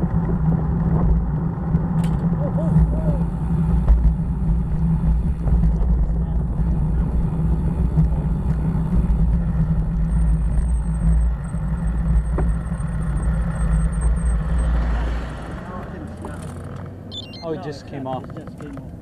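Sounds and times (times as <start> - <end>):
bicycle tyre rumble on pavement: 0.0 - 17.1.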